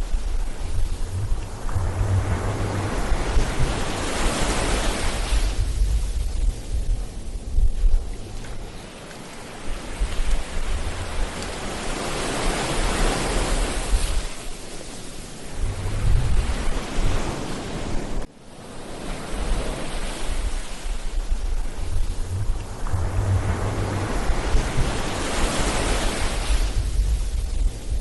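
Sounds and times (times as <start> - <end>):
wind buffeting microphone: 0.0 - 14.4, 15.4 - 18.3, 19.3 - 28.0
ocean surf breaking: 0.0 - 28.0.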